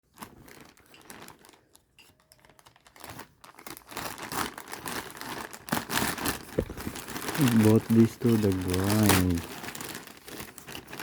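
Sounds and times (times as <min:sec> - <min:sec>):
packaging crinkling and rustling: 0:00.1 - 0:11.0.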